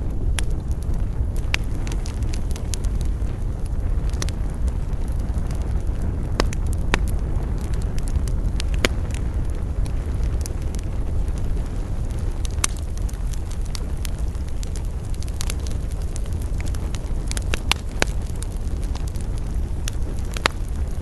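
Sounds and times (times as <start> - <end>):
fire rumbling: 0.0 - 21.0
wood fire popping and snapping: 0.0 - 21.0.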